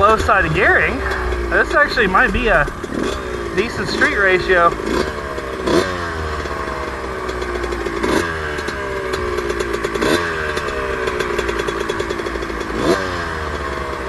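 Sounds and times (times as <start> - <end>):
two-stroke motorcycle engine revving: 0.0 - 14.0.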